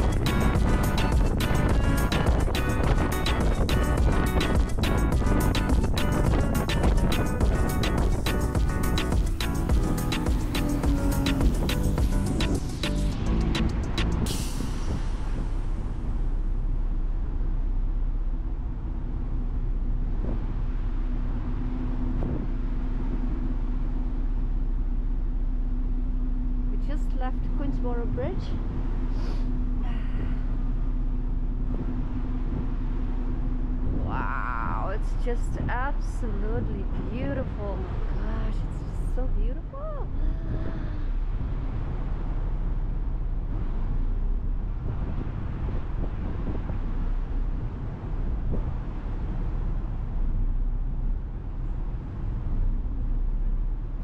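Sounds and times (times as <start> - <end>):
wind on microphone: 0.0 - 17.8, 18.4 - 24.4, 26.7 - 54.0
steady hum: 0.0 - 54.0
vehicle engine rumble: 0.0 - 54.0.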